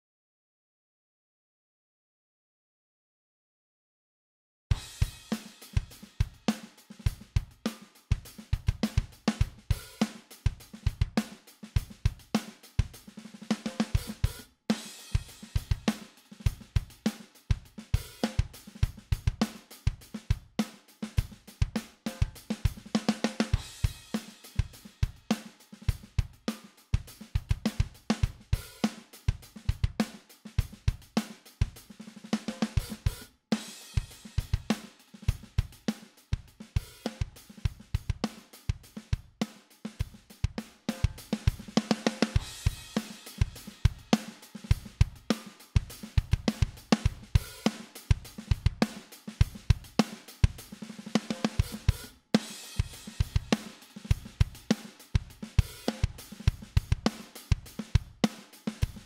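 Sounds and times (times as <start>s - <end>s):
drum kit groove: 4.7s - 59.0s.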